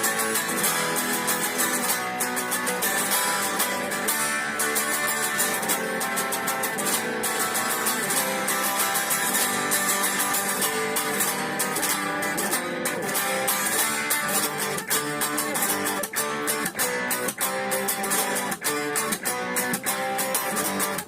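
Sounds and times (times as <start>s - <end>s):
palm-muted guitar picking: 0.0s - 21.0s.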